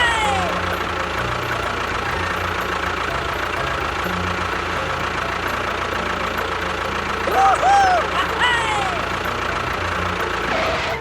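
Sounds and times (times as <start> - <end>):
toy machine motor droning: 0.0 - 11.0.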